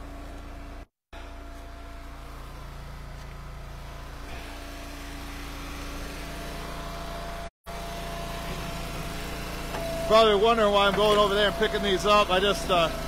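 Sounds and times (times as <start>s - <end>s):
small gas engine running: 0.0s - 13.0s.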